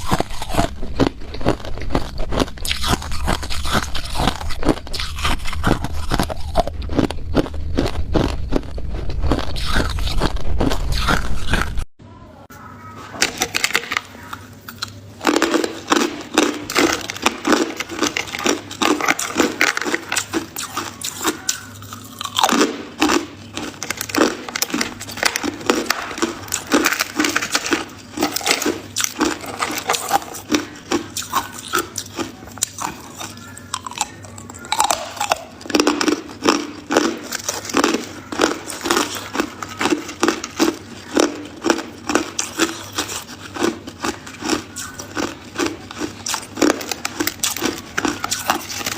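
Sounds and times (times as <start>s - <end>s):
ice being chewed: 0.0s - 11.8s, 13.5s - 48.9s.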